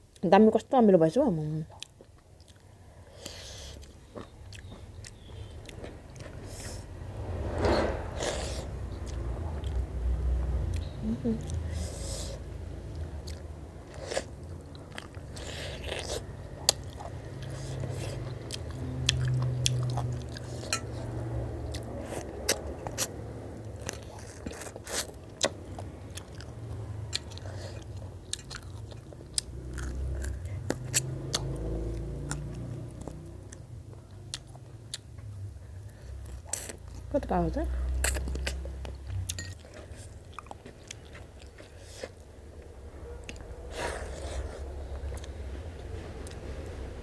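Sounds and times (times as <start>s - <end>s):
person chewing crunchy food: 1.7s - 7.0s, 7.8s - 37.1s, 37.8s - 46.8s.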